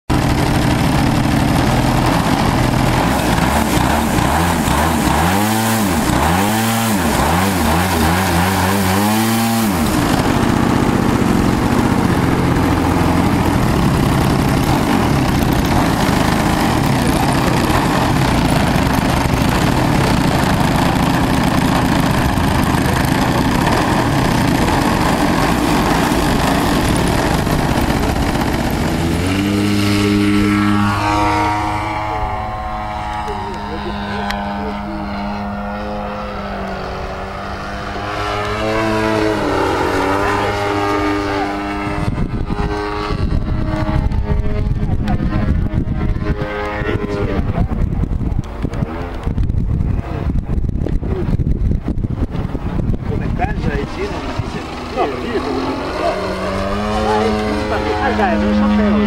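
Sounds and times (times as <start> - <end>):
model plane engine idling and revving: 0.1 - 59.0.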